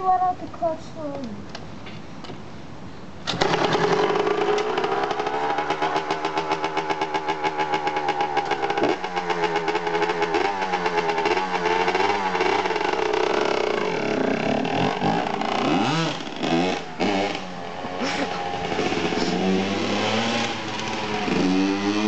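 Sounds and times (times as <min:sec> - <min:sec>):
dirt bike engine idling: 0:03.4 - 0:22.0.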